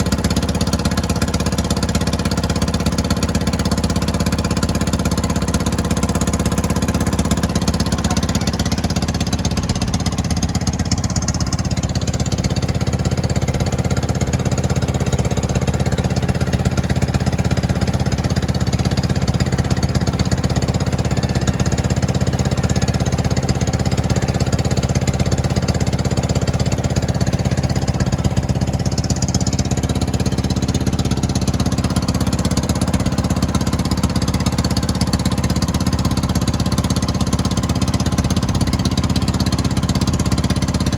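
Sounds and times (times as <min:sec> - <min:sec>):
engine chugging steadily: 0:00.0 - 0:40.9.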